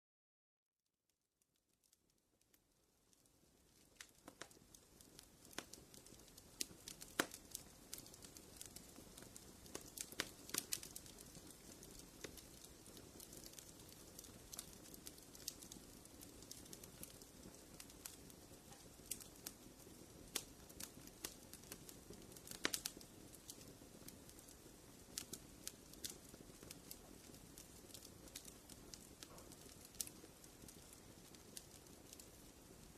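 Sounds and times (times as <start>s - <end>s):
wood fire crackling: 1.5s - 32.9s.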